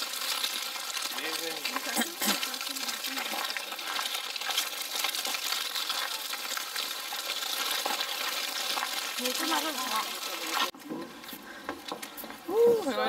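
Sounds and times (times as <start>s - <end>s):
stroller wheels crunching on gravel: 0.0s - 11.4s
footsteps: 0.9s - 13.0s.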